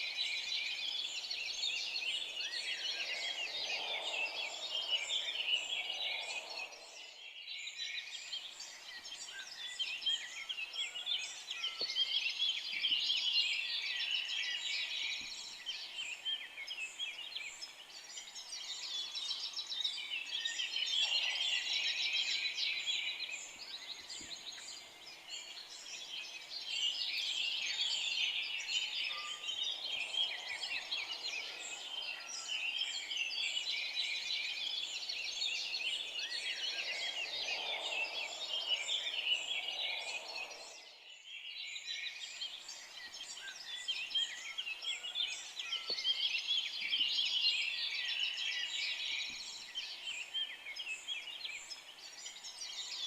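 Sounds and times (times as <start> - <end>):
forest birds chirping and trilling: 0.0 - 53.0.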